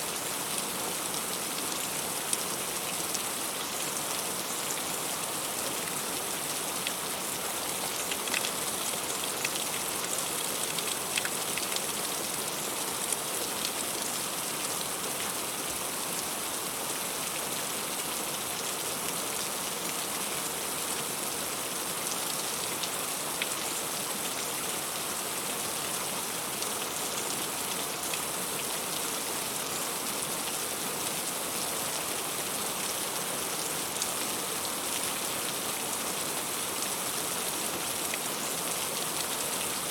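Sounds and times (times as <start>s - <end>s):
heavy rain on fruit: 0.0s - 39.9s.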